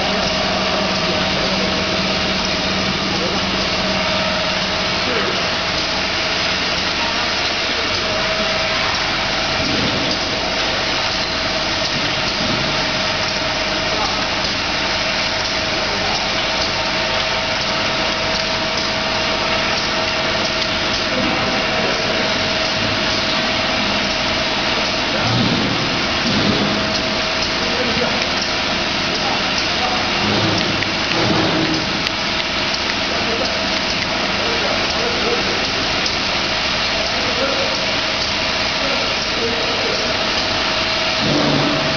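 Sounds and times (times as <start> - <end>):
machine running: 0.0 - 41.9.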